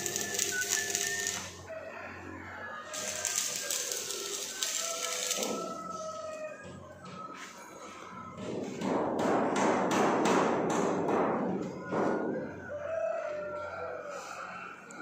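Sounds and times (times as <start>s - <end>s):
faint rooster crowing: 0.0s - 9.3s, 11.5s - 15.0s.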